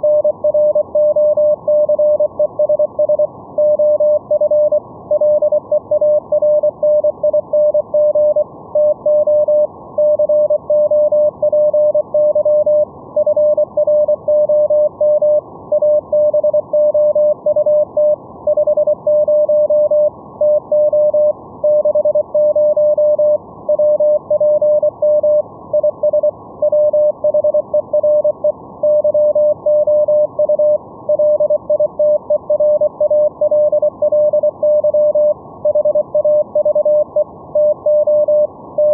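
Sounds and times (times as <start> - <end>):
morse code beeps: 0.0 - 38.9.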